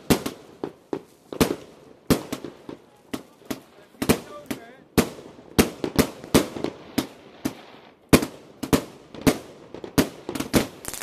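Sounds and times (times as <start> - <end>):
firework cake bangs: 0.0 - 11.0.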